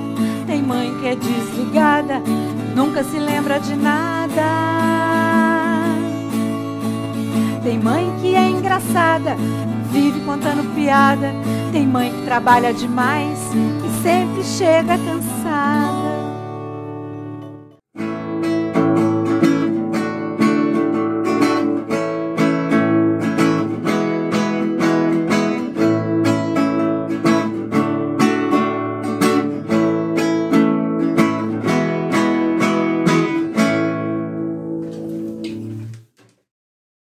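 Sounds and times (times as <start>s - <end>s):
strummed acoustic guitar: 0.0s - 36.0s.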